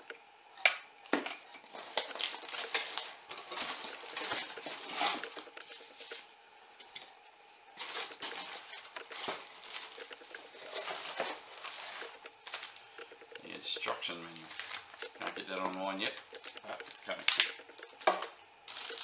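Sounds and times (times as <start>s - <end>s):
packaging crinkling: 1.7s - 6.3s, 7.8s - 19.0s.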